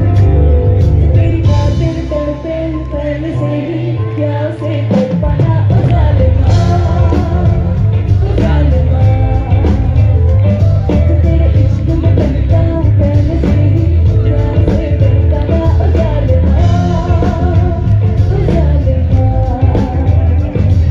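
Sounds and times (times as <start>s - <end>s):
live band playing through pa: 0.0s - 20.9s
person singing: 0.0s - 20.9s.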